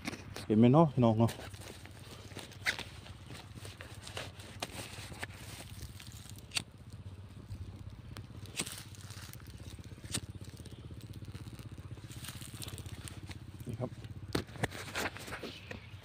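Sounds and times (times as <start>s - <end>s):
low steady hum: 0.0s - 16.0s
twigs and leaves crackling: 0.0s - 16.0s.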